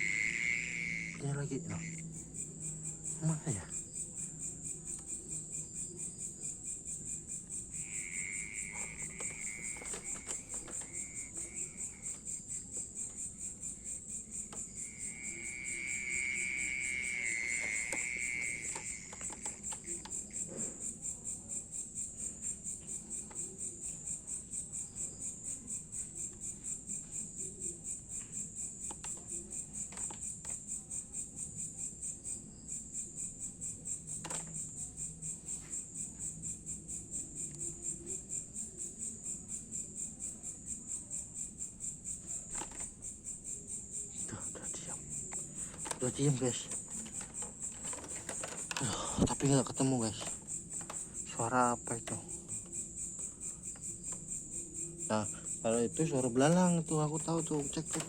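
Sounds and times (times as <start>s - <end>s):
insect high-pitched ringing trill: 0.0s - 58.0s.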